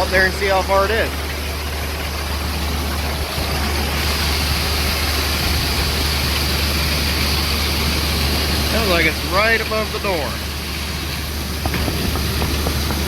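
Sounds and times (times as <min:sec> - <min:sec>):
engine idling with hiss: 0:00.0 - 0:13.0.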